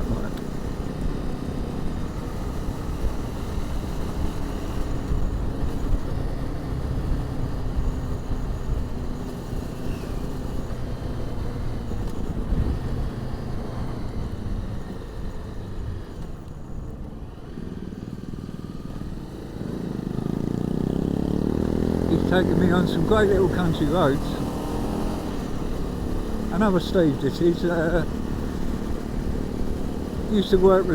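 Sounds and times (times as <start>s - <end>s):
motorcycle engine: 0.0s - 30.9s
road rumble: 0.0s - 30.9s
wind: 0.0s - 30.9s.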